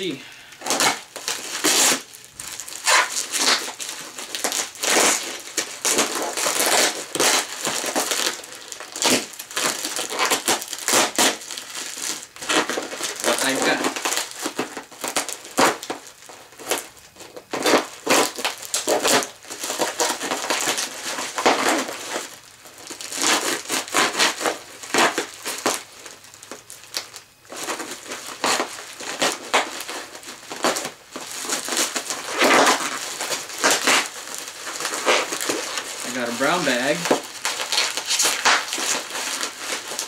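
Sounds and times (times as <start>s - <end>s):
plastic wrap crinkling: 0.0s - 40.0s.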